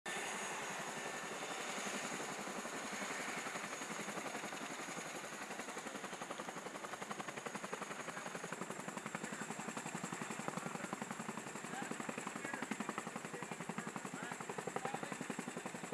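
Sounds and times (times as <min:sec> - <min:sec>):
helicopter rotor chopping: 0:00.1 - 0:15.9.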